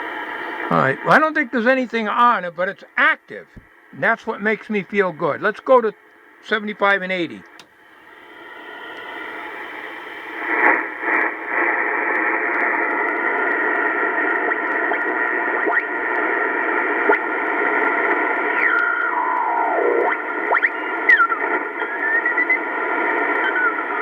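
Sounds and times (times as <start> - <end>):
radio receiver hiss: 0.0 - 24.0.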